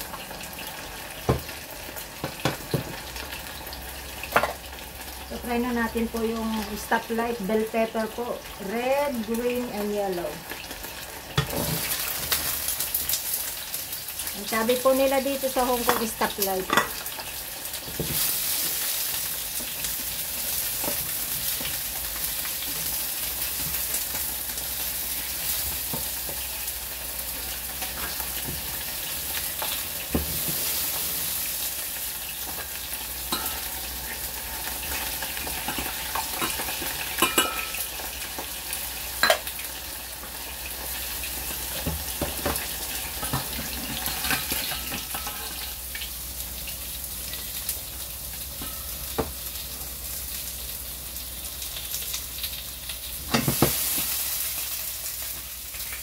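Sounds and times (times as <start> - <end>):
oil sizzling in a frying pan: 0.0 - 56.0.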